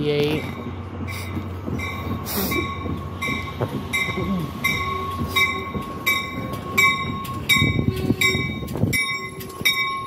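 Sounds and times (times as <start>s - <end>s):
train wheels rumbling: 0.0s - 10.0s
bell ringing: 1.8s - 10.0s.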